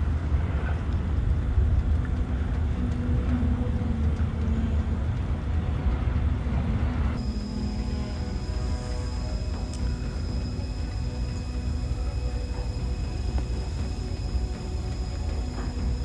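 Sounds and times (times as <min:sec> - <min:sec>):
low storm rumble: 0:00.0 - 0:16.0
music with sustained tones: 0:00.0 - 0:16.0.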